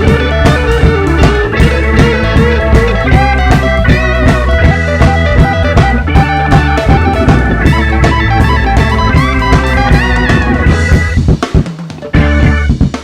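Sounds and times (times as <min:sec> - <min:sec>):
blues-rock band playing: 0:00.0 - 0:13.0
electric guitar lead: 0:00.0 - 0:13.0.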